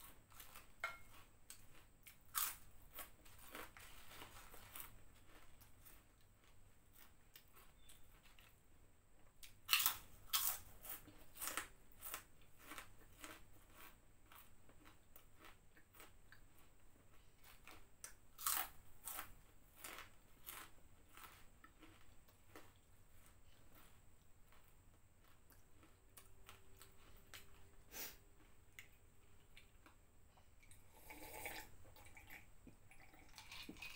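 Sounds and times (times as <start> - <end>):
crackers being chewed: 0.0 - 8.6, 9.4 - 30.8, 32.0 - 33.9.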